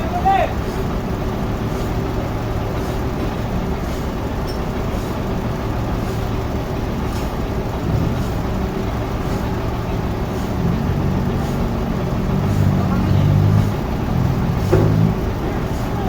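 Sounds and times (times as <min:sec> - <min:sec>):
sawmill machinery drone: 0:00.0 - 0:16.0.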